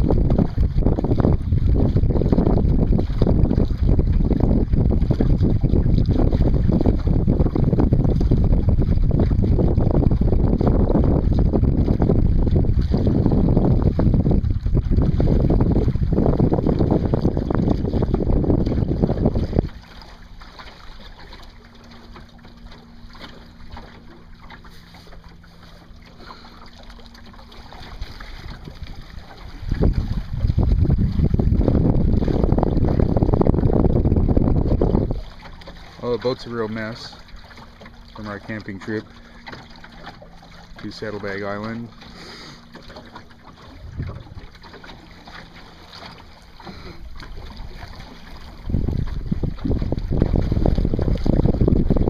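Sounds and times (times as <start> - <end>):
small splashes: 0.0 - 52.0
water lapping along boat hull: 0.0 - 52.0
wind noise on microphone: 0.0 - 52.0.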